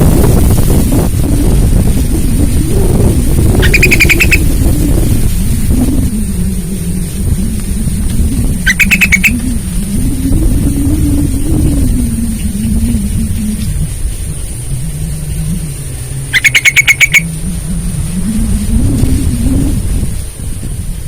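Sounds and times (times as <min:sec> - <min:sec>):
low rumble with wavering hum: 0:00.0 - 0:21.0
bird bubbly calls: 0:02.1 - 0:19.8.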